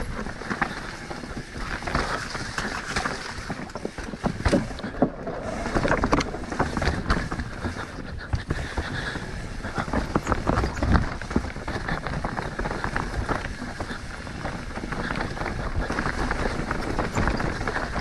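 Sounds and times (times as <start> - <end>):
bike knocking and rattling: 0.0 - 18.0
bike tyres rolling over rock: 0.0 - 18.0
wind across microphone: 0.0 - 18.0.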